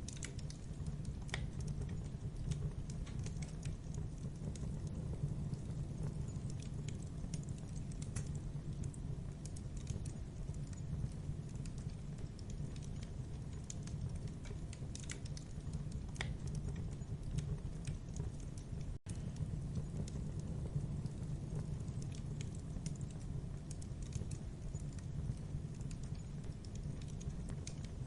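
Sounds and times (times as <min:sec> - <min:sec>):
burning wood crackling and popping: 0:00.0 - 0:28.0
low rumble of flames: 0:00.0 - 0:28.0.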